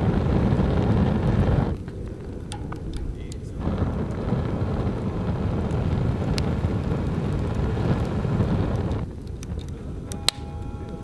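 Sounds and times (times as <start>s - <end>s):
fire crackling and popping: 0.0s - 11.0s
wood fire burning: 0.0s - 11.0s.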